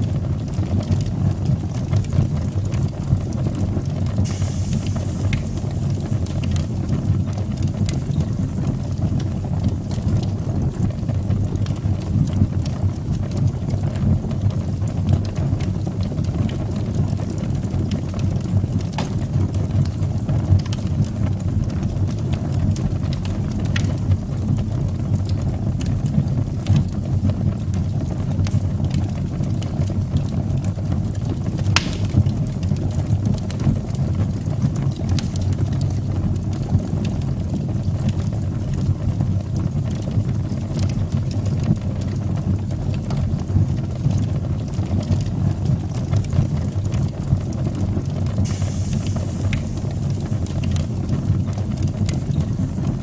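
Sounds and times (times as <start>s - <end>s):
fire crackling and popping: 0.0s - 53.0s
wood fire flames rumbling: 0.0s - 53.0s.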